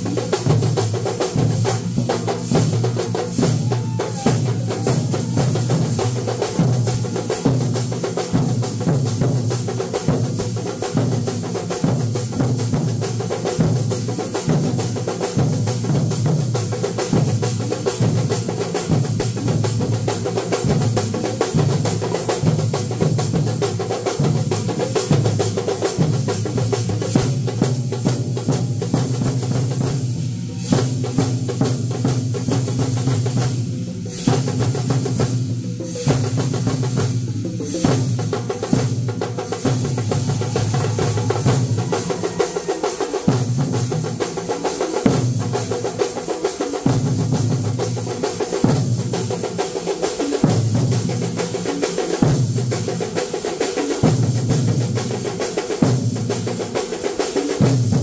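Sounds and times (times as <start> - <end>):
massed drums played fast: 0.0 - 58.0.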